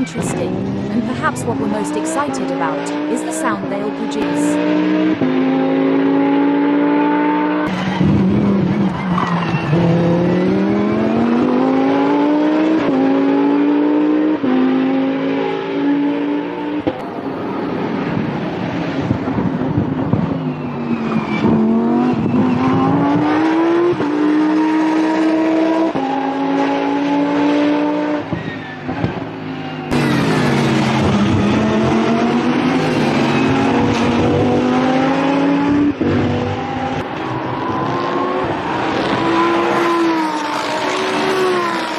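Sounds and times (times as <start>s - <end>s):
sports car engine at full throttle: 0.0s - 41.9s.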